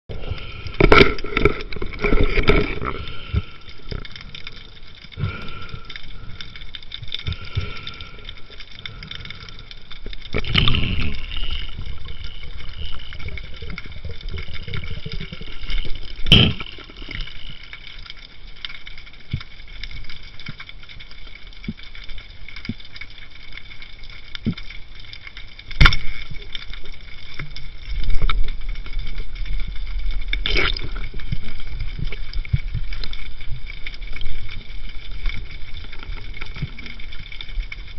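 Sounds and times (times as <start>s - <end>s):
faint steady whine: 0.1s - 37.9s
low rumble of moving water: 0.1s - 37.9s
muffled water movement: 0.1s - 37.9s.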